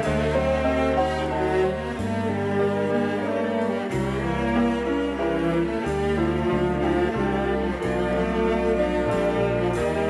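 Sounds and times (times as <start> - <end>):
low bass line: 0.0 - 10.0.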